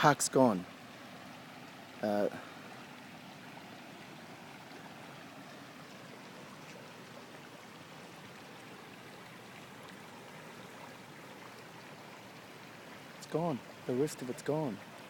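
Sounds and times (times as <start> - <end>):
flowing floodwater: 0.0 - 15.0.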